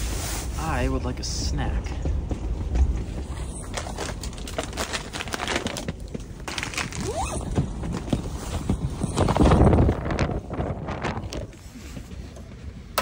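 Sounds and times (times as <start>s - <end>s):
tent fabric and clothing rustling: 0.0s - 1.0s, 3.1s - 12.8s
strong wind rumble: 0.0s - 13.0s.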